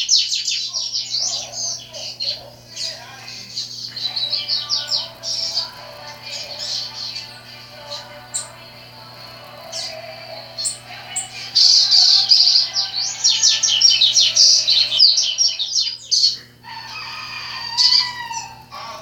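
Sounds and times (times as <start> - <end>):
lower-pitched bird song: 0.0 - 19.0
songbird chirps: 0.0 - 19.0.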